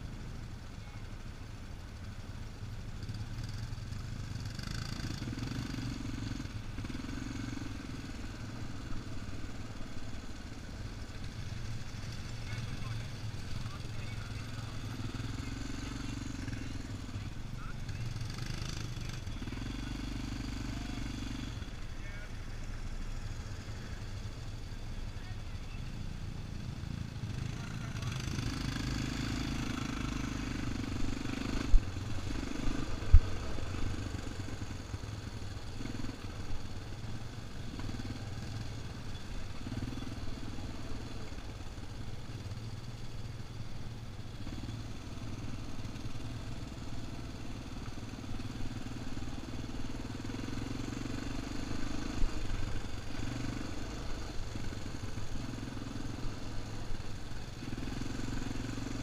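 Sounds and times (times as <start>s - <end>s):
quad bike engine revving: 3.0s - 21.7s, 26.6s - 43.2s, 43.9s - 59.0s.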